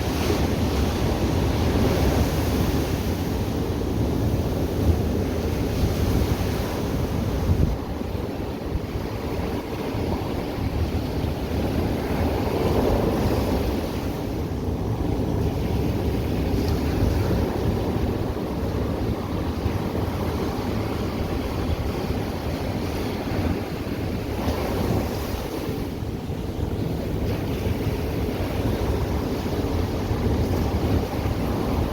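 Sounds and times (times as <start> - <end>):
ocean surf breaking: 0.0 - 14.4, 15.4 - 31.9
wind rumbling on microphone: 0.0 - 31.9.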